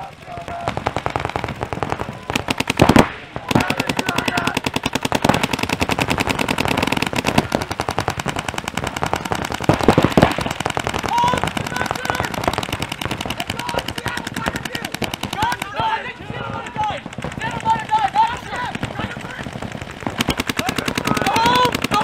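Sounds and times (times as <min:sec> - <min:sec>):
paintball marker firing: 0:00.5 - 0:22.0.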